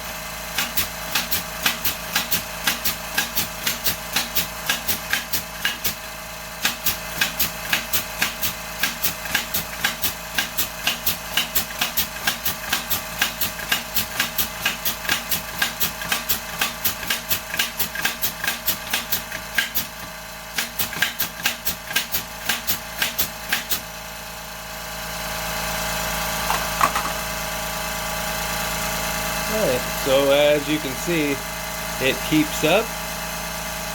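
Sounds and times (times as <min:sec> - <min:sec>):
pneumatic nailer shots: 0:00.0 - 0:27.4
air compressor running: 0:00.0 - 0:33.9.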